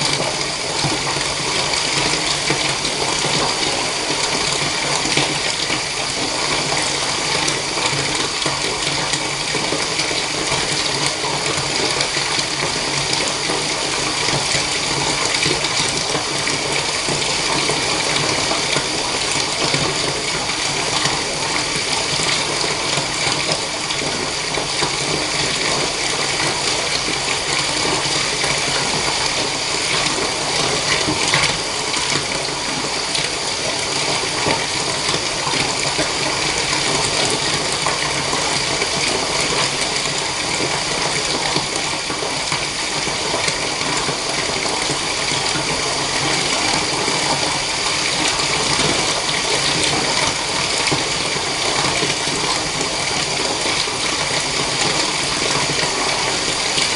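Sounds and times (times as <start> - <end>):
tap water running into bathtub: 0.0 - 56.9.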